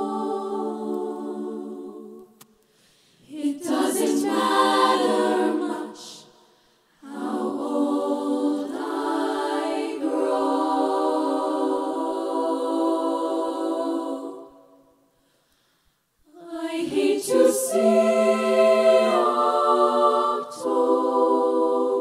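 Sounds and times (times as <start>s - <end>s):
female choir singing a cappella: 0.0s - 2.4s, 3.1s - 15.1s, 16.3s - 22.0s.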